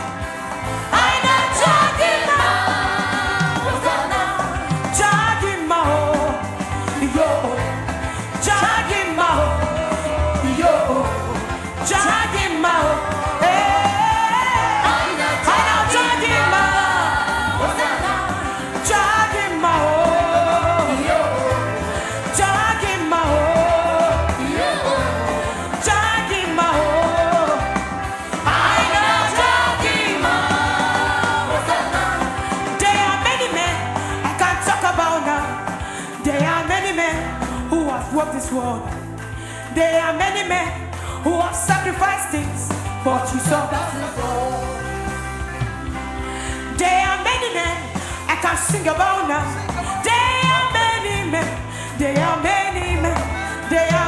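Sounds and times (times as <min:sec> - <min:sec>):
band accompaniment: 0:00.0 - 0:54.0
bass and drum beat: 0:00.0 - 0:54.0
person singing gospel melody: 0:00.0 - 0:54.0.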